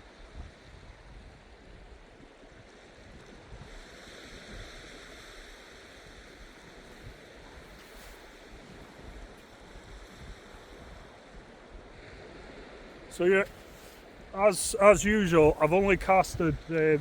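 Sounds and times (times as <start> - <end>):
small waves washing on sand: 2.7 - 17.0.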